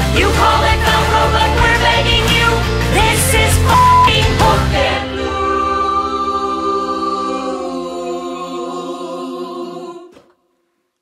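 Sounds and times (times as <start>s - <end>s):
group of voices singing: 0.0s - 10.4s.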